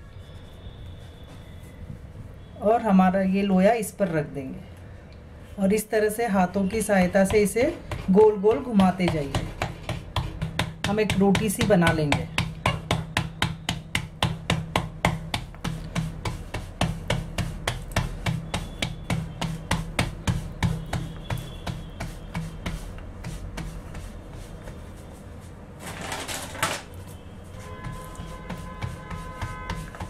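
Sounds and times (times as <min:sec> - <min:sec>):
palms patting dough: 0:05.7 - 0:30.0.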